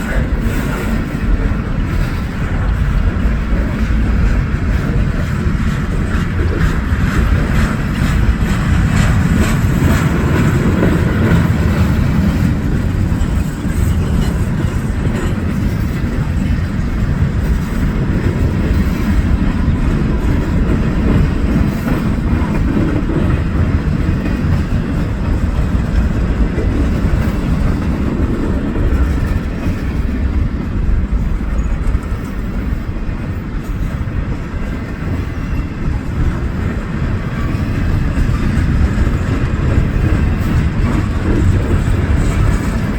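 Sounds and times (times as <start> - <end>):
train passing close by: 0.0 - 42.9.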